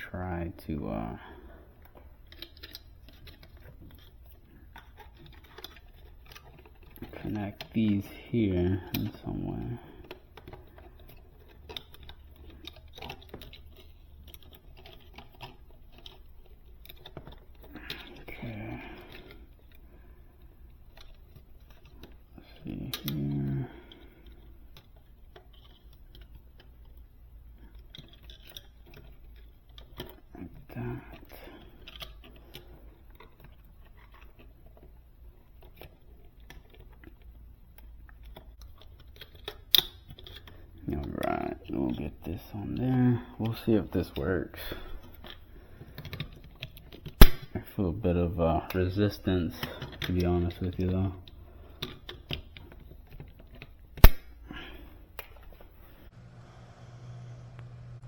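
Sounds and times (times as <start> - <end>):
low steady hum: 0.0 - 58.0
wires and connectors clicking: 0.6 - 56.1.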